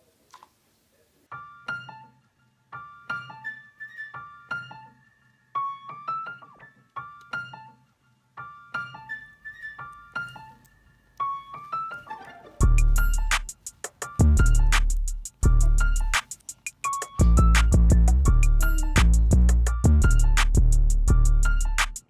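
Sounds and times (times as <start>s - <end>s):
piano melody: 1.3s - 22.0s.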